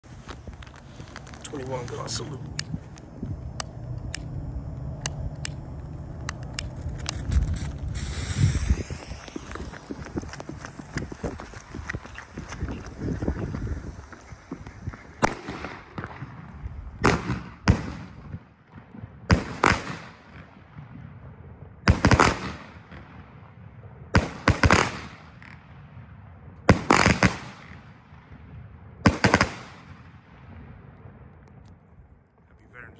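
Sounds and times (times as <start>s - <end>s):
fireworks launching and bursting: 0.0s - 21.2s, 21.8s - 30.7s.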